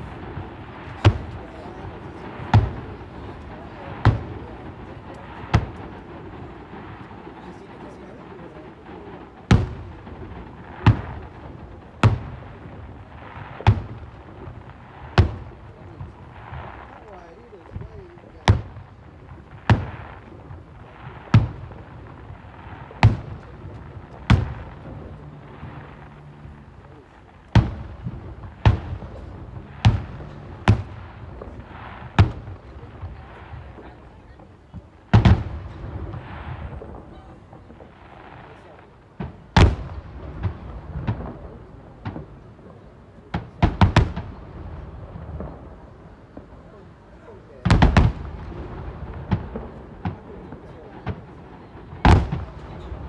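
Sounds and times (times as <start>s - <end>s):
fireworks booming: 0.0s - 53.0s.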